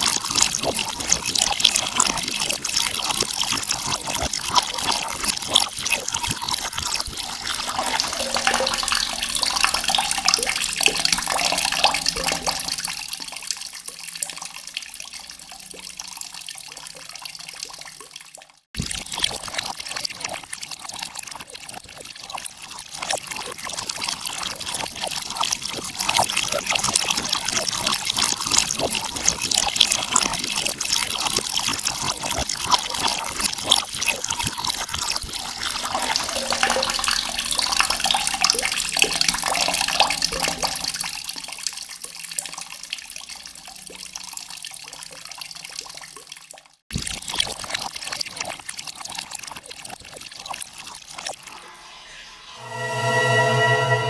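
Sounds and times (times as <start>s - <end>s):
water running and splashing: 0.0s - 51.6s.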